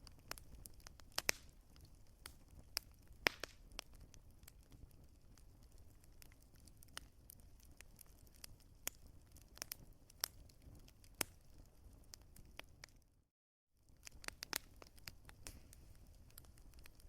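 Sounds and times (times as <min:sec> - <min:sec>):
low rumble of flames: 0:00.0 - 0:13.2, 0:13.8 - 0:17.0
wood fire crackling: 0:00.0 - 0:13.2, 0:13.8 - 0:17.0.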